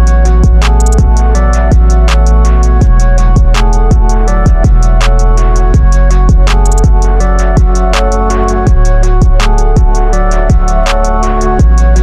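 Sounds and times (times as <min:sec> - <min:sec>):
deep sliding beats: 0:00.0 - 0:12.0
hi-hat ticking: 0:00.0 - 0:12.0.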